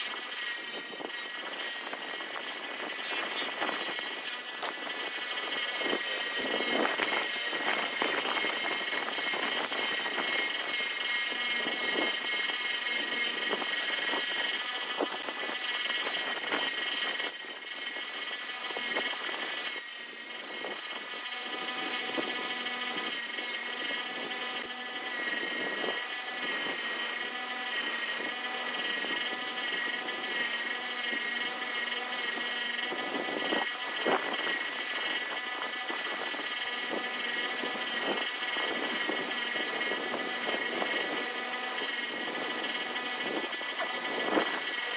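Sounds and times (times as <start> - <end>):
motor-driven machine whining: 0.0 - 44.9.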